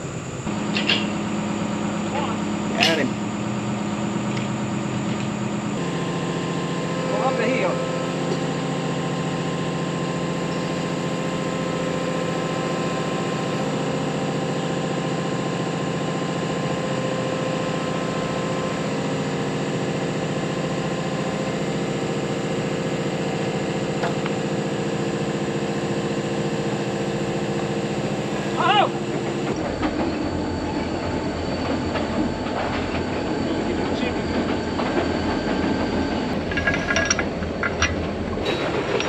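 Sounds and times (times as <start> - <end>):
excavator engine running: 0.0 - 39.0.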